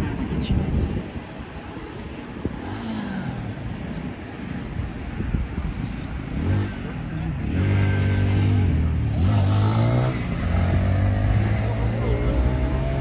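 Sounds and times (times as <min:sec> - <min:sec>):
car engines passing: 0:00.0 - 0:13.0.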